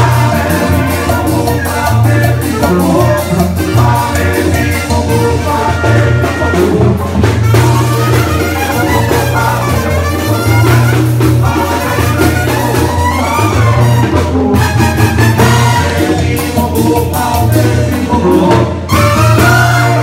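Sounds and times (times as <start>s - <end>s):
drums: 0.0s - 20.0s
trumpets playing: 0.0s - 20.0s
tuba bass line: 0.0s - 20.0s.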